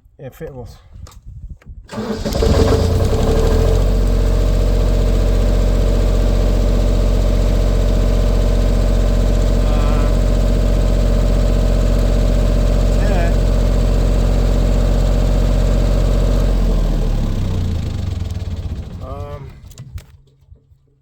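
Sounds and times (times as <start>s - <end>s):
diesel engine starting and idling: 1.9s - 20.4s.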